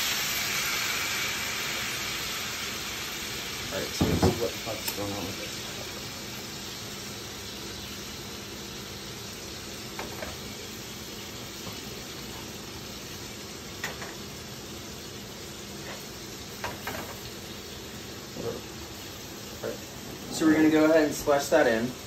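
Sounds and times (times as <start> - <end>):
chicken frying in a pan: 0.0 - 22.0.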